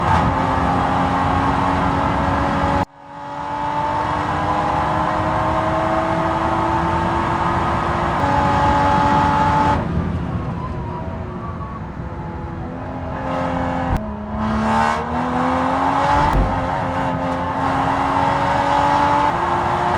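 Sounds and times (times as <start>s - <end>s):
race car engine at high revs: 0.0s - 19.9s.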